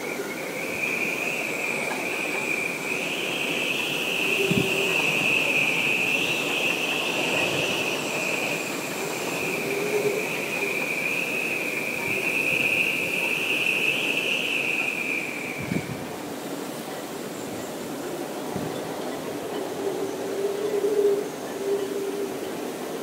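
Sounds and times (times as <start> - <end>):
continuous rushing hiss: 0.0 - 23.0
hurricane wind whistling: 0.0 - 23.0.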